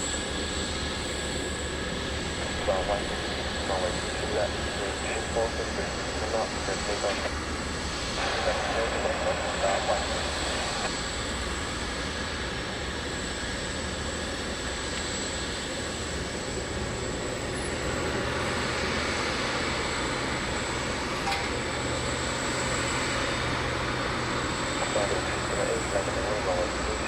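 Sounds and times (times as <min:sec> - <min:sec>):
jet aircraft engines running: 0:00.0 - 0:27.0.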